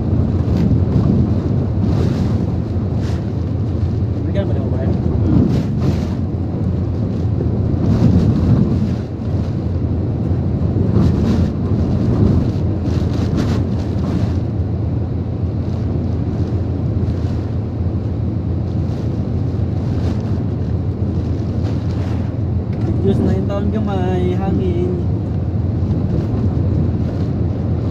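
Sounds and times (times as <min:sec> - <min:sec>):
wind and rain buffeting microphone: 0:00.0 - 0:27.9.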